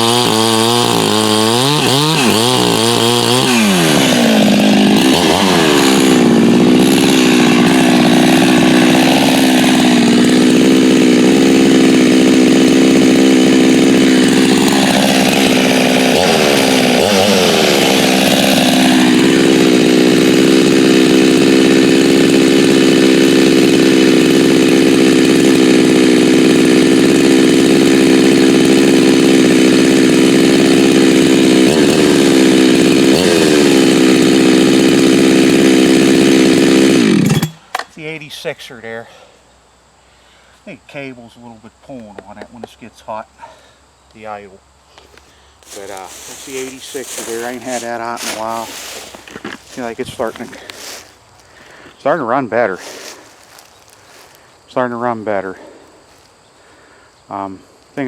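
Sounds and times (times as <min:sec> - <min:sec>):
chainsaw engine revving: 0:00.0 - 0:37.9, 0:45.2 - 0:56.2.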